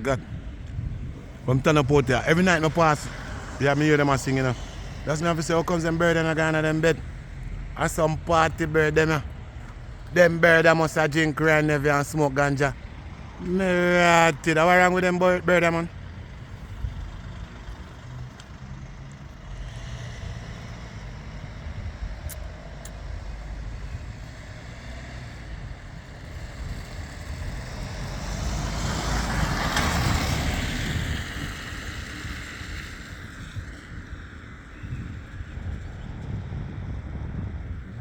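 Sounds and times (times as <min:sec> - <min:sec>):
traffic rumble: 0:00.0 - 0:38.0
vehicle passing: 0:00.0 - 0:38.0.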